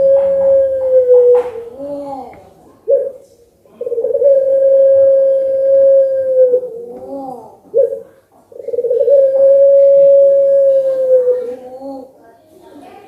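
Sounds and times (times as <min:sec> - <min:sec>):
turtle dove cooing: 0:00.0 - 0:12.2.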